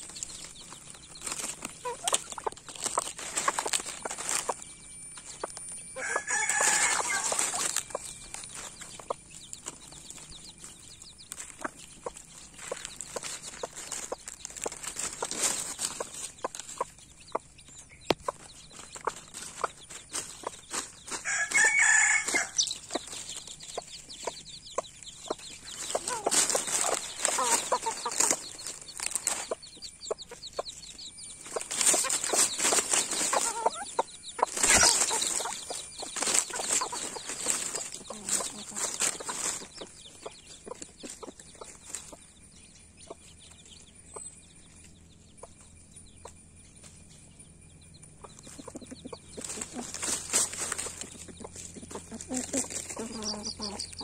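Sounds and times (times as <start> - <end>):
chicks peeping: 0.0 - 54.0
pecking in dry leaves: 0.0 - 54.0
rooster and hen clucking: 0.0 - 54.0.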